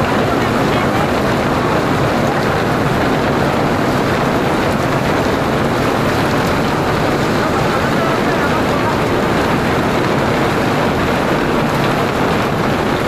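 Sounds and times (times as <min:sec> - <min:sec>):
heavy rain on a street: 0:00.0 - 0:13.0.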